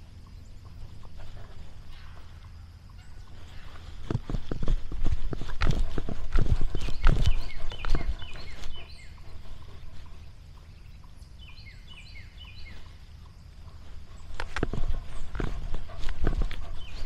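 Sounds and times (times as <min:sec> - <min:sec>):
low steady rumble: 0:00.0 - 0:17.0
songbird chirping: 0:00.0 - 0:17.0.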